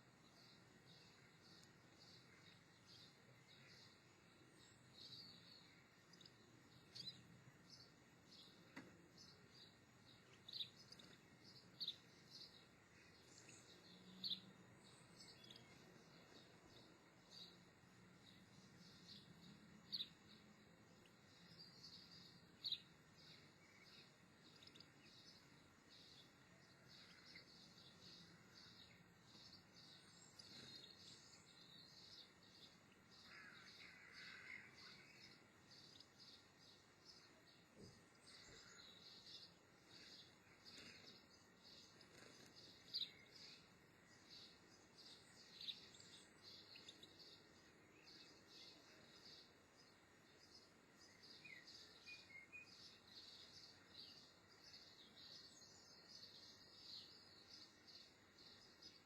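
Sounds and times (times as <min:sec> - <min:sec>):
faint high bird chirps: 0:00.0 - 0:59.0.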